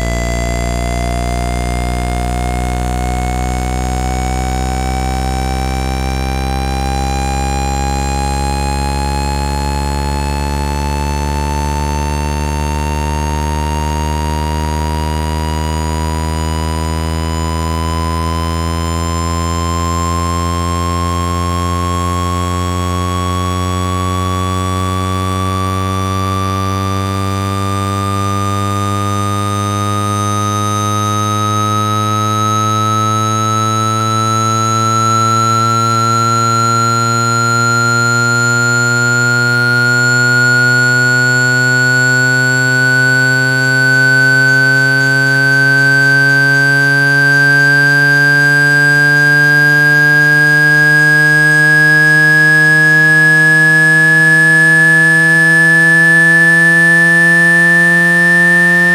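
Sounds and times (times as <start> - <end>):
buzzing tone sliding upward: 0.0 - 58.9.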